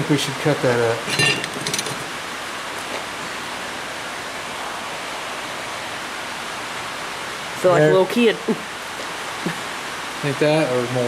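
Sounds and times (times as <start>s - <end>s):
rain on a tin roof: 0.0s - 11.0s.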